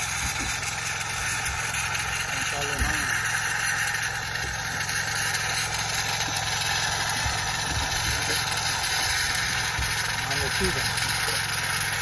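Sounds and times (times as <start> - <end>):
machine humming: 0.0 - 12.0
milk frother hissing: 0.0 - 12.0.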